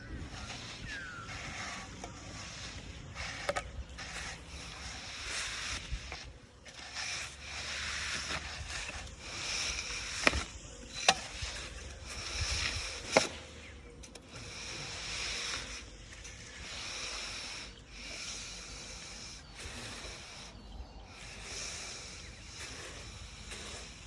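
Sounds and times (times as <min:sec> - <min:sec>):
rasping swishing strokes: 0:00.0 - 0:24.0.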